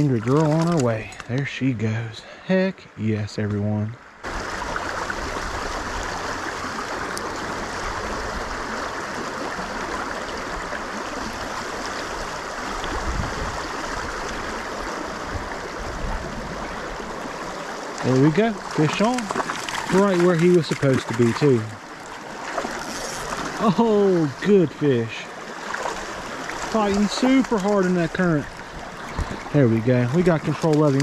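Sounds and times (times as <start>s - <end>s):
creek water rushing over rocks: 4.2s - 31.0s.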